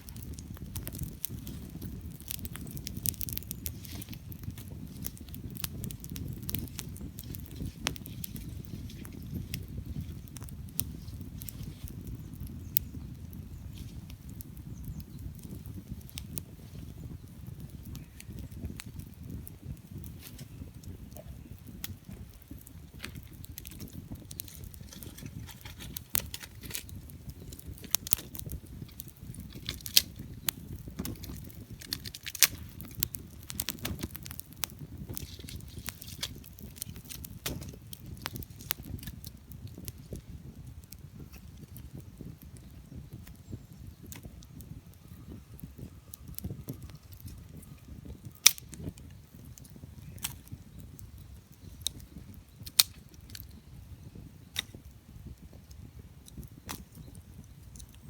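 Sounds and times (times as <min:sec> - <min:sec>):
firewood crackling and popping: 0:00.0 - 0:58.0.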